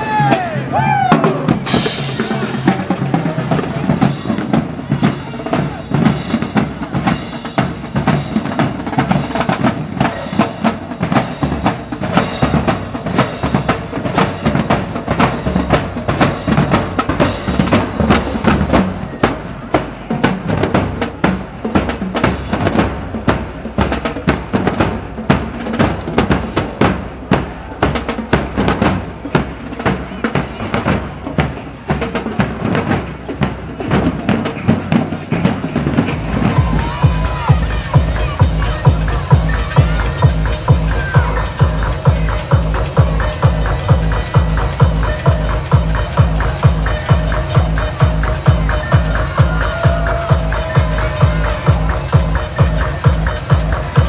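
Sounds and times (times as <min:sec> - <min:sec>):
marching drums: 0:00.0 - 0:54.0.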